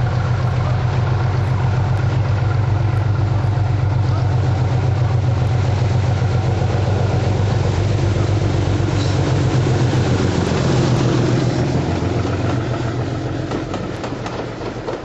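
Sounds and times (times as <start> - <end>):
diesel locomotive passing: 0.0 - 15.0.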